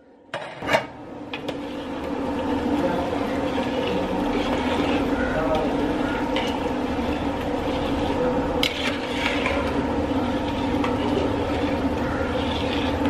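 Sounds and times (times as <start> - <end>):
ladle scraping metal pot: 0.4 - 13.0
ladle stirring in boiling water: 0.9 - 13.0.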